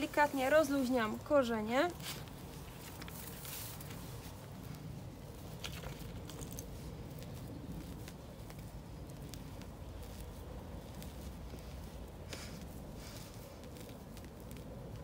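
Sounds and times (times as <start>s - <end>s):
low steady rumble: 0.0s - 15.0s
soil and roots rustling: 0.0s - 15.0s.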